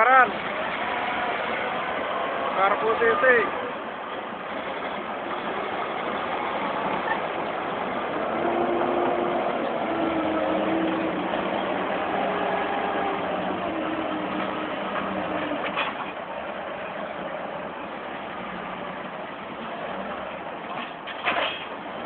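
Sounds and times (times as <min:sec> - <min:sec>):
bulldozer diesel engine under load: 0:00.0 - 0:22.0.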